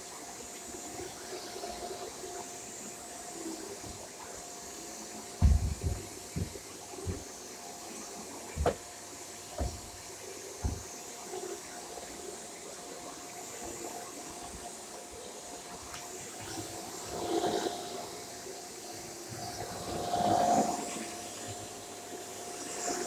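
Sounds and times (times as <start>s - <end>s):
vacuum cleaner whining: 0.2s - 23.0s.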